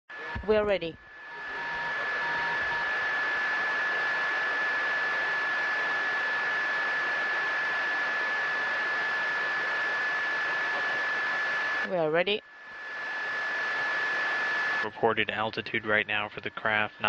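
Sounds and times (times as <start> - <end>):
constant high-pitched tone: 0.2 - 17.0
radio static hiss: 1.3 - 11.8, 13.3 - 17.0.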